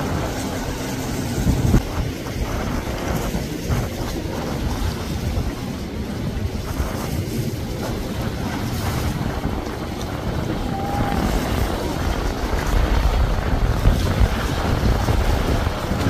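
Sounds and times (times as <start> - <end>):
boat motor rumbling: 0.0 - 16.0
hull splashing through waves: 0.0 - 16.0
wind buffeting microphone: 0.0 - 16.0.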